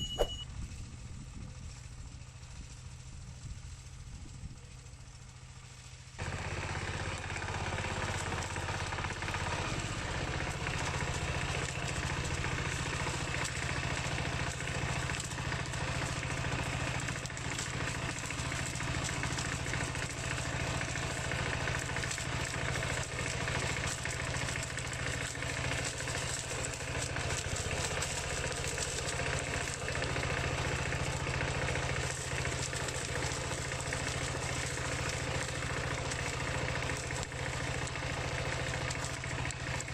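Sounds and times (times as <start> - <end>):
diesel engine rattling: 0.0 - 39.9.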